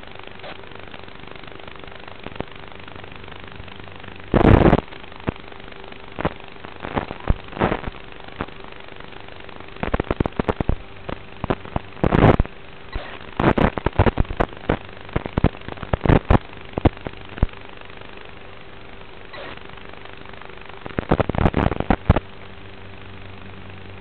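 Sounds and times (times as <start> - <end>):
faint hum: 0.0 - 24.0
radio static hiss: 0.0 - 24.0
crackling pops: 0.3 - 3.4, 4.3 - 18.0, 19.2 - 22.6.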